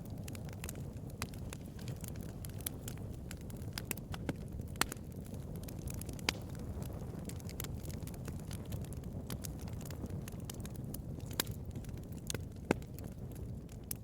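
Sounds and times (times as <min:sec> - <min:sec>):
wood bonfire crackling: 0:00.0 - 0:14.0.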